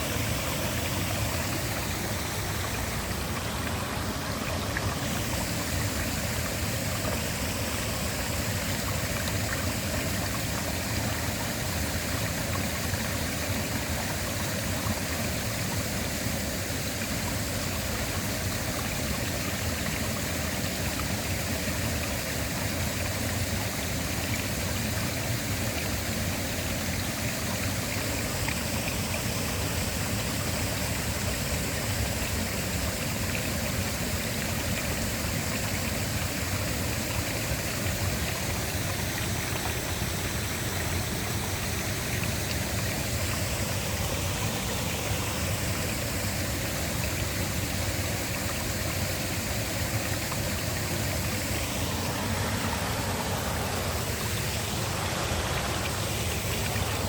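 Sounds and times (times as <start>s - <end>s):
waterfall rushing: 0.0s - 21.8s, 25.4s - 57.0s.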